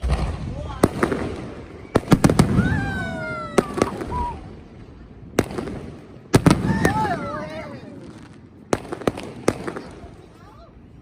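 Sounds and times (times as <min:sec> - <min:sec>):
fireworks bangs: 0:00.0 - 0:10.8.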